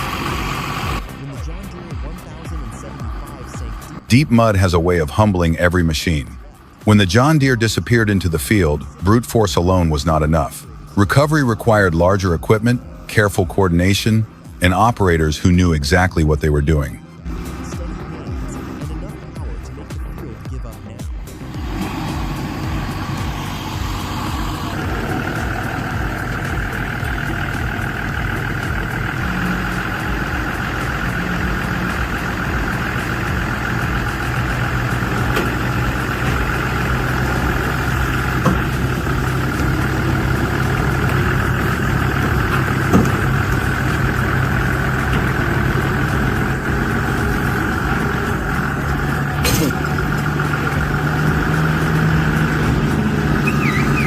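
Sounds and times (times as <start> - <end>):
diesel tractor engines running: 0.0 - 54.0.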